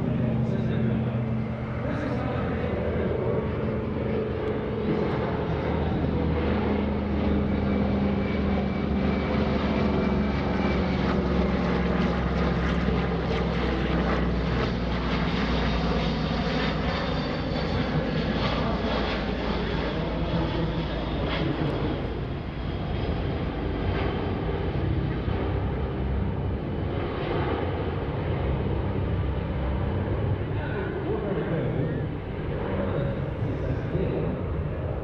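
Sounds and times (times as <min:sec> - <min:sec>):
jet engines droning: 0:00.0 - 0:35.0
propeller engines droning: 0:00.0 - 0:35.0.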